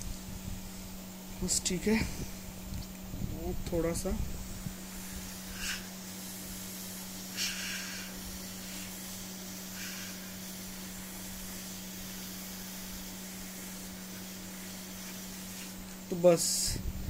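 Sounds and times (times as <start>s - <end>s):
hot-air gun hissing: 0.0s - 16.8s.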